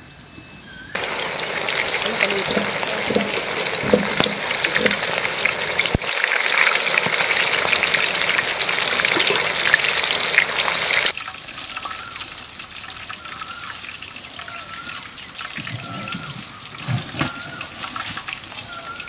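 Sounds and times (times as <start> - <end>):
chicken sizzling in hot oil: 1.0 - 19.0.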